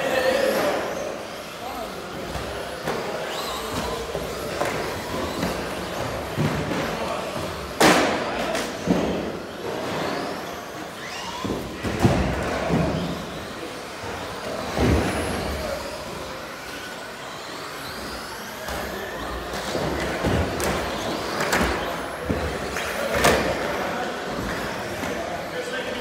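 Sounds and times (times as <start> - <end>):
rc truck motors whining: 0.0 - 26.0.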